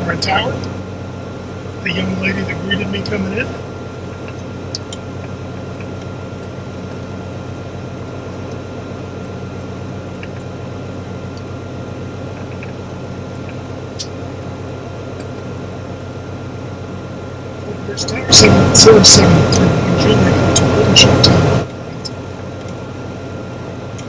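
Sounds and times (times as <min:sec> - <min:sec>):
propeller aircraft engine drone: 0:00.0 - 0:24.0.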